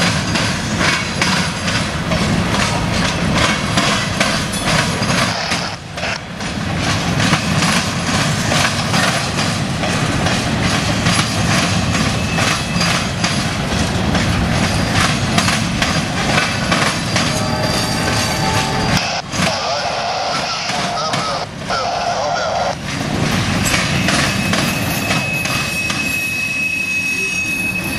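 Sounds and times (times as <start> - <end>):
rumble of rolling train: 0.0 - 27.9
train wheels clattering over crossing: 0.0 - 27.9.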